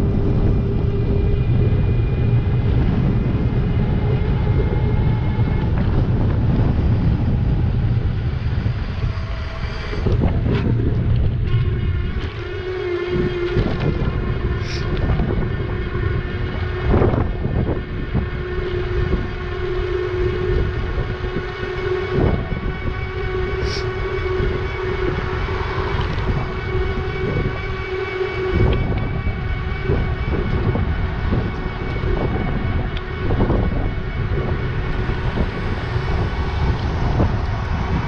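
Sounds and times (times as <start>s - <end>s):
electric motor whine: 0.0s - 38.0s
wind buffeting microphone: 0.0s - 38.0s.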